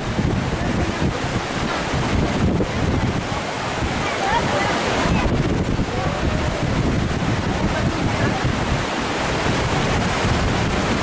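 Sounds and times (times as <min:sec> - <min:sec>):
river rushing: 0:00.0 - 0:11.0
wind on microphone: 0:00.0 - 0:11.0.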